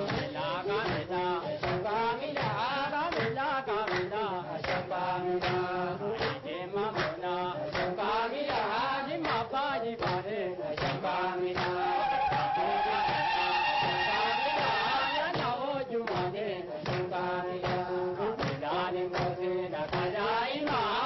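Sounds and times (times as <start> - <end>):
rhythmic hand claps: 0.0 - 21.0
women singing together: 0.0 - 21.0.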